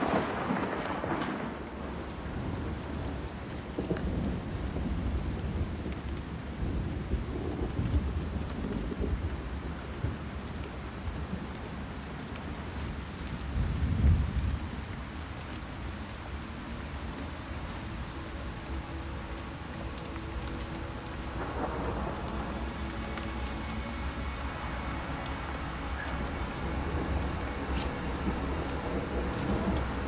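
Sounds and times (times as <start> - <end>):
low rumble of thunder: 0.0 - 30.0
steady rain: 0.0 - 30.0.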